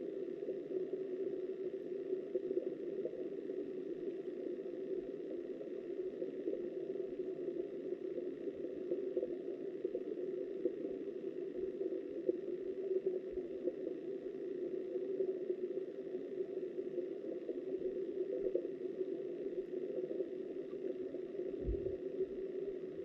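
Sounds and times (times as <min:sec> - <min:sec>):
muffled river water underwater: 0:00.0 - 0:23.0.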